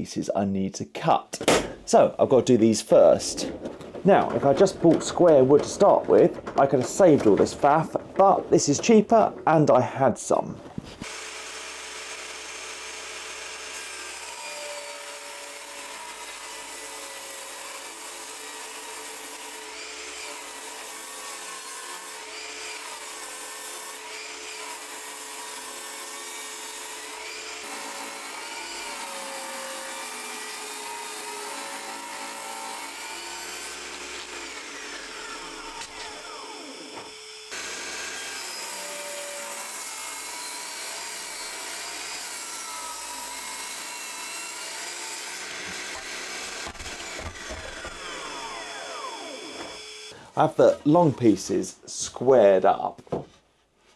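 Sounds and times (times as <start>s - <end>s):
table saw ripping wood: 2.9s - 9.3s, 10.9s - 50.2s.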